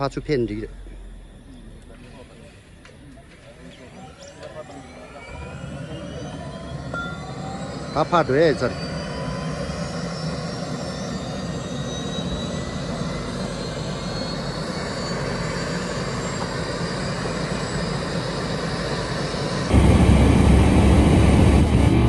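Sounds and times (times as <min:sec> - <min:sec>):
helicopter turbine whine: 0:00.0 - 0:22.0
loud deep engine roar: 0:00.0 - 0:22.0.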